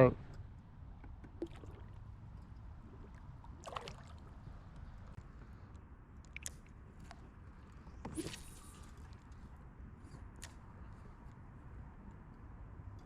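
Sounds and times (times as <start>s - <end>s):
faint water lapping around kayak: 0.1s - 12.9s.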